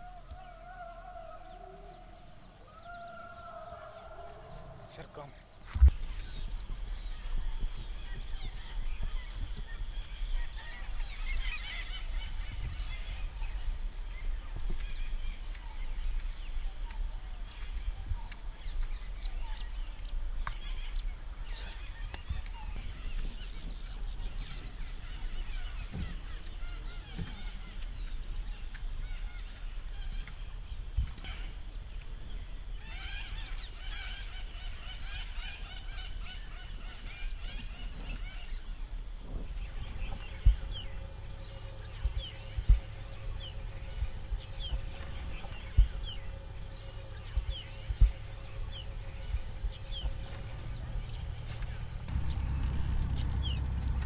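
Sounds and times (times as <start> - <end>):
birds calling: 0.0 - 54.0
low background hum: 0.0 - 54.0.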